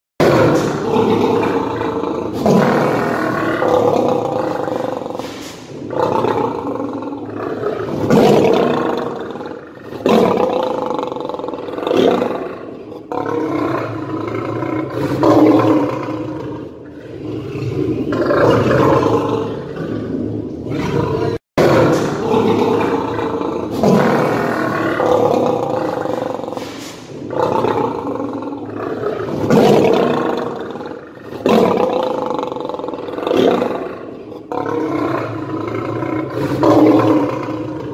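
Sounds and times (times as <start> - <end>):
lion roaring: 0.2 - 37.9.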